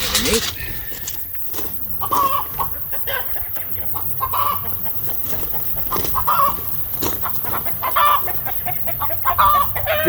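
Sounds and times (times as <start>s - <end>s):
chickens clucking: 0.0s - 10.0s
low background hum: 0.0s - 10.0s.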